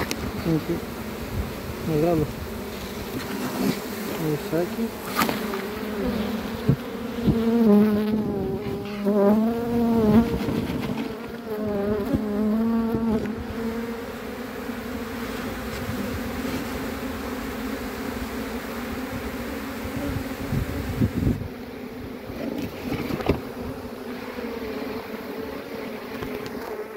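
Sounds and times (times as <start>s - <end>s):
honeybees buzzing: 0.0s - 26.9s.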